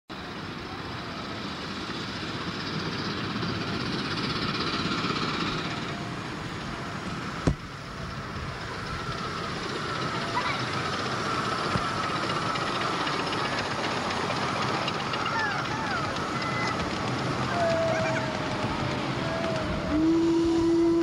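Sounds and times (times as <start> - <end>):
miniature steam train running: 0.1 - 21.0.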